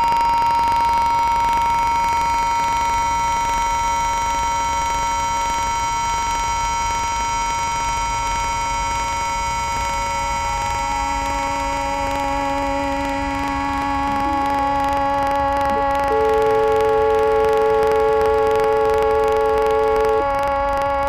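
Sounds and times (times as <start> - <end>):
lower tone: 0.0 - 21.0
sustained multi-tone drone: 0.0 - 21.0.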